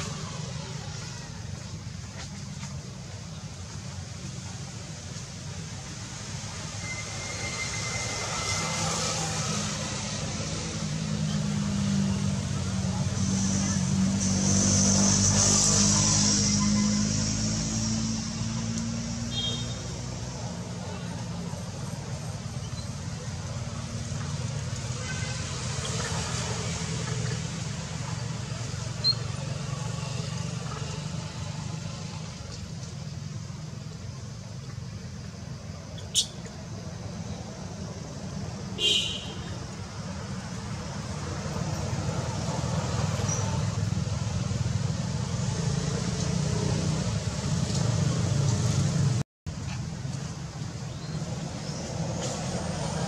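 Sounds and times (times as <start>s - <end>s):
motor traffic rumble: 0.0s - 53.0s.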